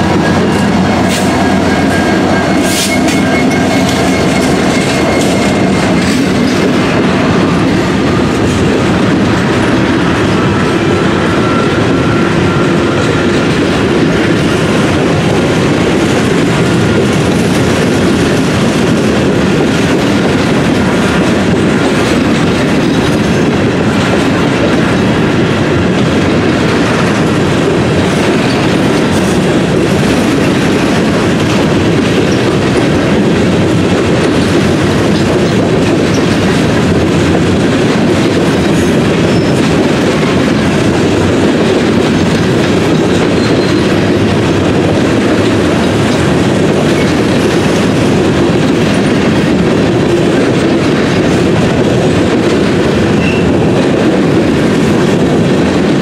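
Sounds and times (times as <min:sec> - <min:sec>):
train wheel rumble: 0:00.0 - 0:56.0
wheels clacking over rail joints: 0:00.0 - 0:56.0.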